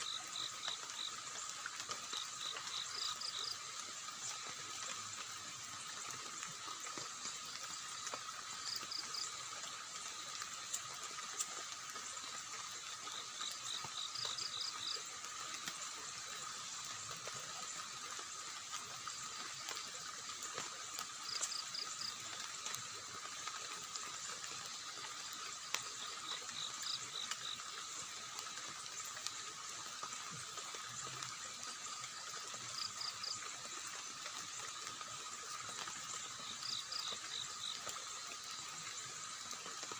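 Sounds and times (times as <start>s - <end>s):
high insect drone: 0.0s - 39.9s
rushing water: 0.0s - 39.9s.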